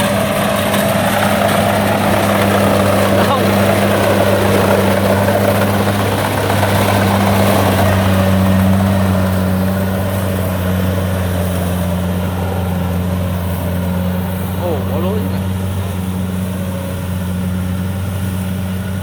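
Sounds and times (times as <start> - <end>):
combine harvester diesel drone: 0.0 - 19.0.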